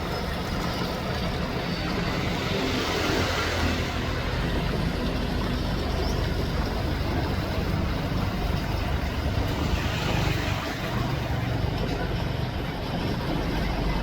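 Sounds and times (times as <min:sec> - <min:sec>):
boat engine running: 0:00.0 - 0:14.0
continuous rushing noise: 0:00.0 - 0:14.0.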